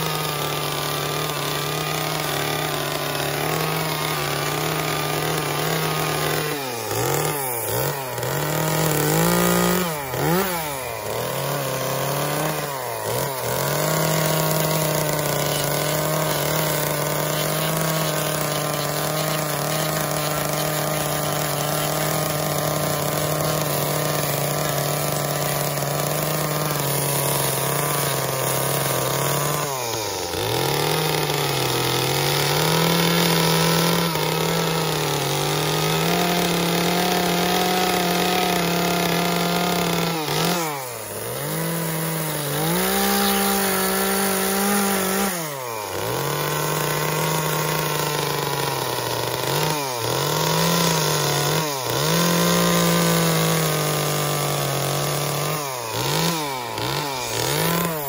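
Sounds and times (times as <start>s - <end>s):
small chainsaw cutting wood: 0.0s - 58.0s.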